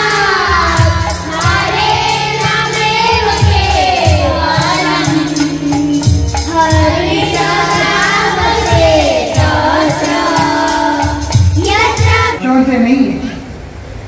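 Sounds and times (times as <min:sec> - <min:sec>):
drum beats: 0:00.0 - 0:12.4
jingling percussion: 0:00.0 - 0:12.4
group singing devotional song: 0:00.0 - 0:12.5.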